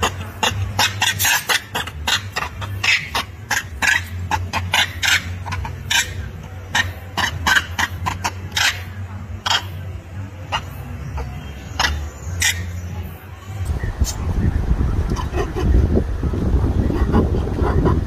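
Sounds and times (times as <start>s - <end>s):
macaques squeaking: 0.0s - 14.3s, 15.0s - 16.0s
steady low hum: 0.0s - 18.0s.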